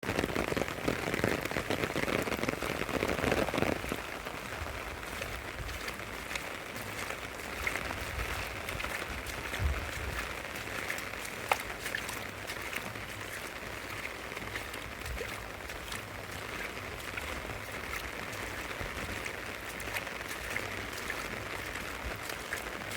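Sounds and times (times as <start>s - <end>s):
rain falling steadily: 0.0s - 22.9s.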